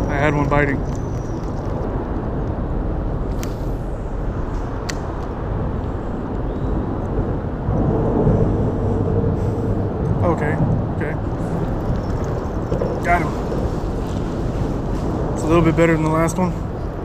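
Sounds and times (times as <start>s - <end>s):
highway traffic rumbling: 0.0s - 17.0s.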